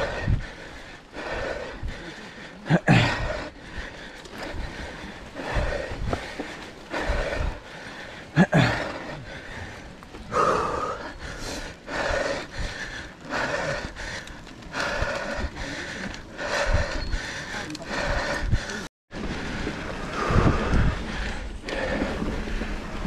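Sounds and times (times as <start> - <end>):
person panting heavily: 0.0 - 23.0.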